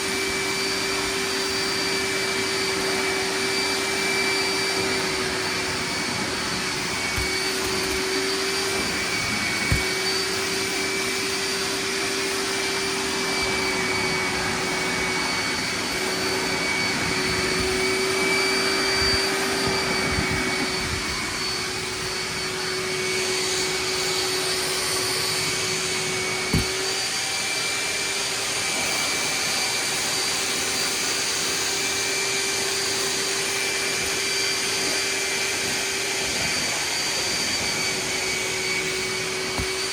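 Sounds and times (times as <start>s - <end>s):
wet vacuum motor whining: 0.0s - 39.9s.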